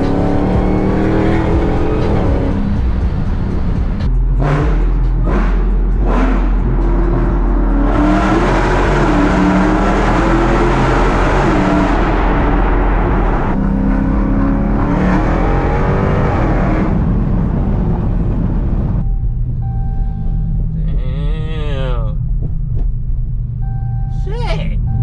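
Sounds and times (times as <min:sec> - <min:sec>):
car engine accelerating: 0:00.0 - 0:24.2.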